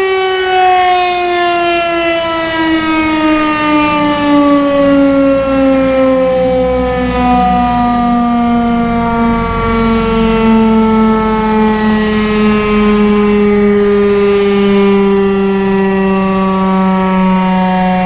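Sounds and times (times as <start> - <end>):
tornado siren winding down: 0.0 - 18.0.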